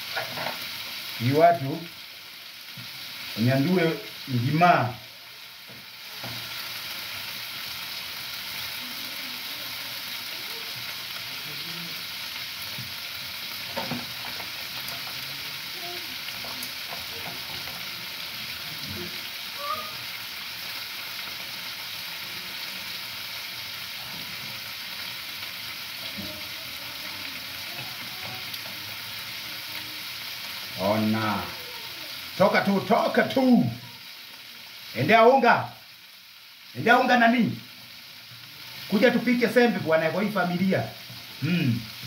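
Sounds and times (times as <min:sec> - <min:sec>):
liver sizzling in a frying pan: 0:00.0 - 0:42.0.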